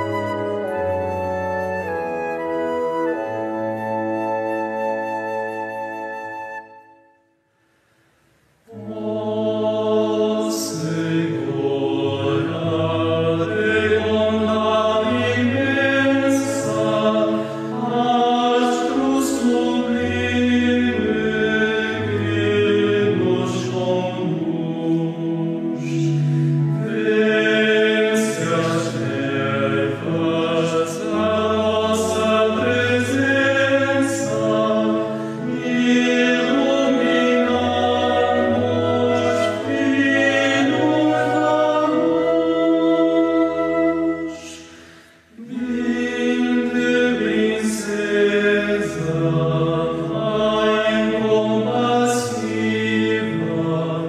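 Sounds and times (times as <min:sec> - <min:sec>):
male choir singing a hymn: 0:08.7 - 0:54.0.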